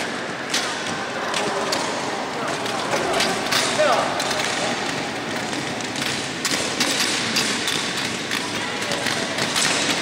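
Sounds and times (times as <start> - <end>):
skate taps and clacks: 0.0 - 10.0
skate wheels rolling on hard floor: 0.0 - 10.0.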